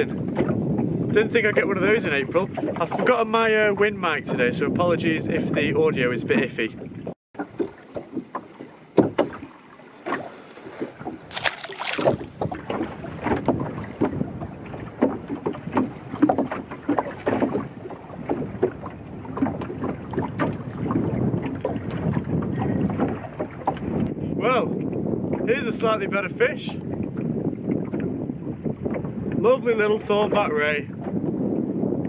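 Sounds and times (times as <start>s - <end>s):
waves slapping against boat hull: 0.0s - 32.0s
wind buffeting microphone: 0.0s - 32.0s.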